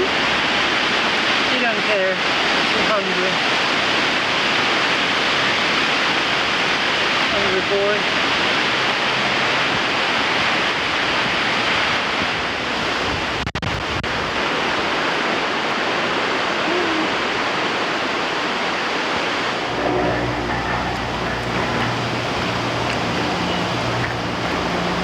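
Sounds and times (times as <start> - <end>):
strong wind blowing: 0.0 - 25.0.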